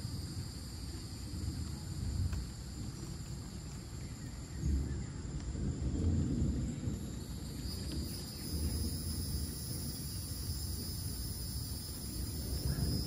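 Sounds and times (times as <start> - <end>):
insects trilling: 0.0 - 13.0
low thunder rumble: 0.0 - 13.0.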